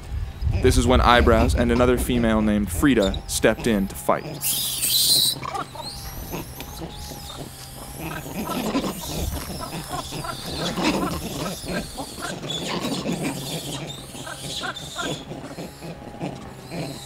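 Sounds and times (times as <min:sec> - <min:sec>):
monkeys grunting and squealing: 0:00.0 - 0:17.0.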